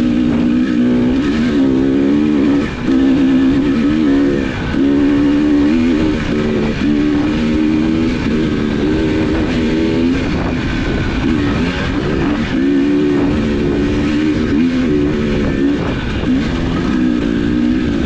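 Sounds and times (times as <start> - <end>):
pitched drone shifting pitch: 0.0 - 18.0
vehicle engine and road rumble: 0.0 - 18.0.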